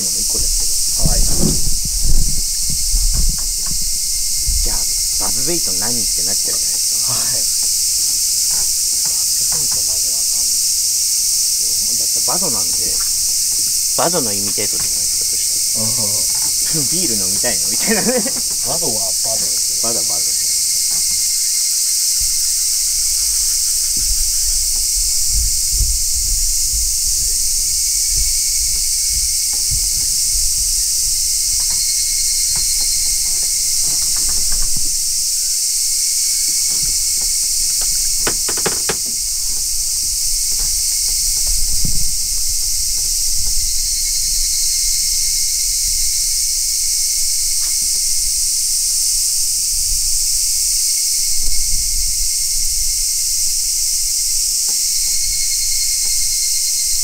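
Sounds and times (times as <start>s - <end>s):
cicadas singing: 0.0s - 57.0s.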